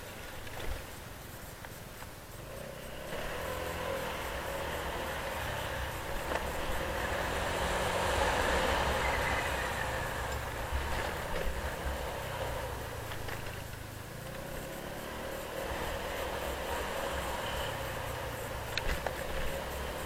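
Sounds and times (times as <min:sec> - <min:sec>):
road and wind noise: 0:00.0 - 0:20.0
vehicle rumble: 0:00.0 - 0:20.0.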